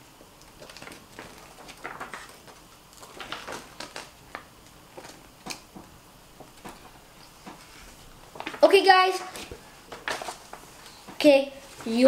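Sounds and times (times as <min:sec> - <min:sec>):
paper leaflet rustling: 0:00.4 - 0:05.7, 0:06.4 - 0:11.0.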